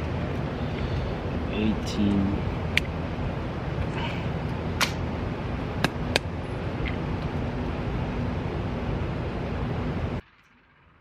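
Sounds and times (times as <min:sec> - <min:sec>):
steady rushing background noise: 0:00.0 - 0:11.0.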